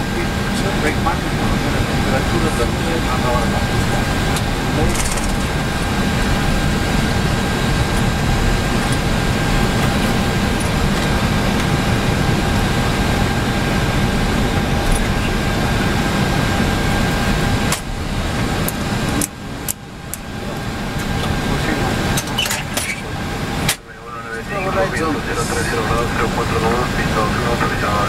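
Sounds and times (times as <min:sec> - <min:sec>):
deep hum of engines: 0:00.0 - 0:28.0.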